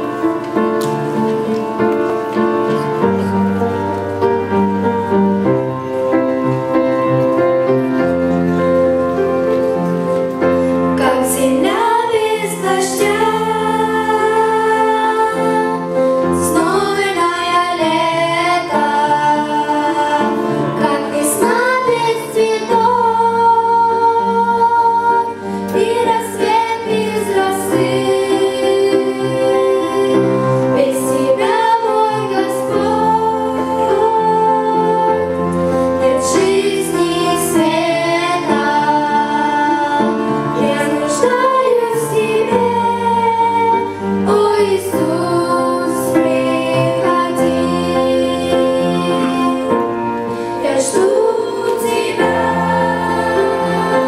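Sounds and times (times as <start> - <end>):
children's choir singing: 0.0 - 54.0
instrumental accompaniment: 0.0 - 54.0.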